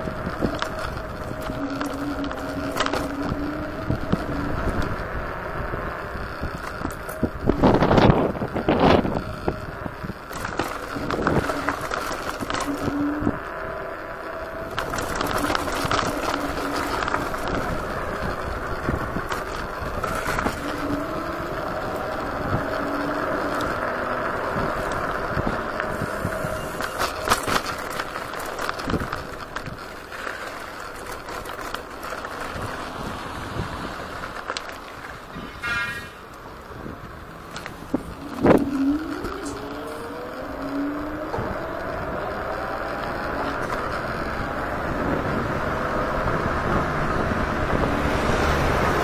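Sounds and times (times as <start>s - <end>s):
short humming tones: 0.0s - 29.6s, 35.4s - 47.9s
tyre and road noise: 0.0s - 49.0s.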